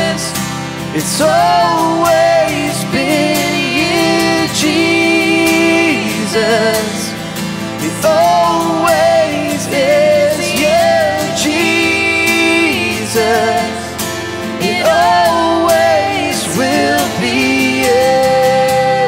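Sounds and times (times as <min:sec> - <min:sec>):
acoustic guitar strumming: 0:00.0 - 0:19.0
woman and man singing: 0:00.0 - 0:19.0.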